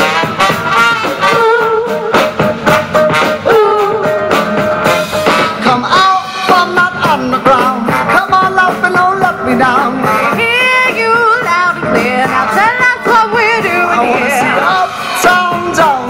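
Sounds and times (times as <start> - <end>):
upbeat band music: 0.0 - 16.0.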